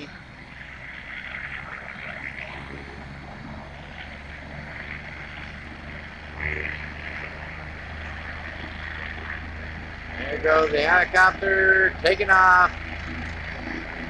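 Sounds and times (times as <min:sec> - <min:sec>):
helicopter engine and rotor hum: 0:00.0 - 0:14.0.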